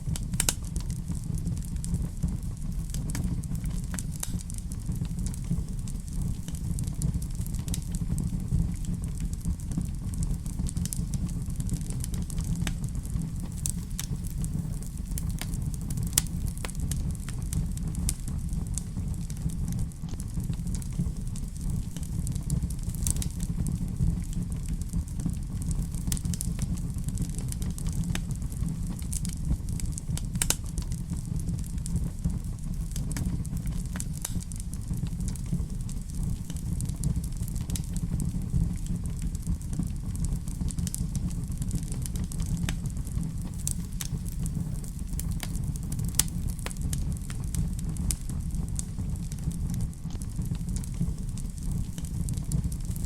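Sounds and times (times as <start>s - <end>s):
fire crackling and popping: 0.0s - 53.0s
low fire rumble: 0.0s - 53.0s.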